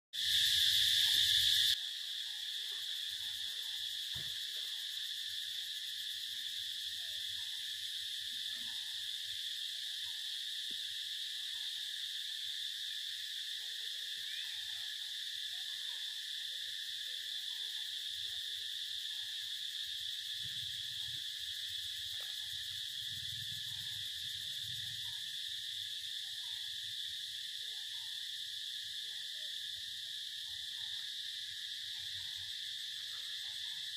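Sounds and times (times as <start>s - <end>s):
high-pitched insect chorus: 0.2s - 33.9s.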